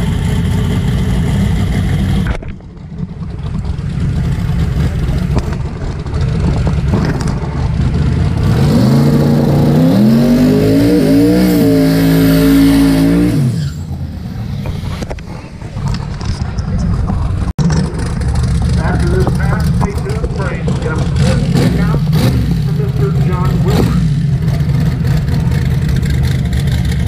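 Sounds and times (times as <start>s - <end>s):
drag racing car engine revving: 3.2s - 27.0s.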